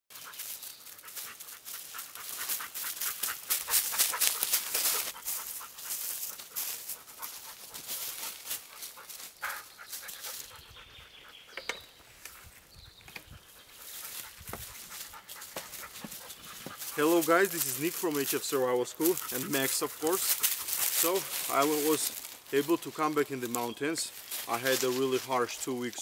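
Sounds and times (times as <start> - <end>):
footsteps crunching through dry leaves: 0.1 - 10.7, 12.0 - 26.0
dog panting: 0.2 - 11.6, 12.2 - 22.2.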